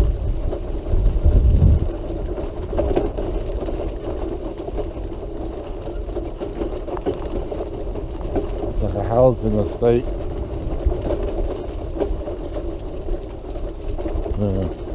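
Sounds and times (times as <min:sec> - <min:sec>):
power wheelchair motors: 0:00.0 - 0:14.9.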